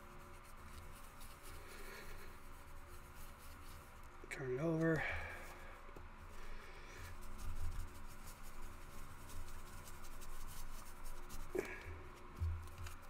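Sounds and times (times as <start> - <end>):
paper towel rubbing on plastic: 0.0 - 13.0.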